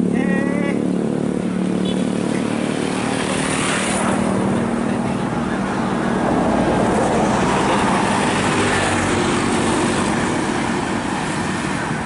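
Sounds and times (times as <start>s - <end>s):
bus passing by: 0.0s - 12.0s.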